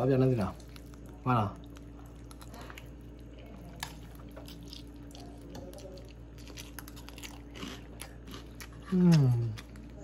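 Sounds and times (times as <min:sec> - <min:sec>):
slurping and chewing noodles: 0:00.2 - 0:10.0.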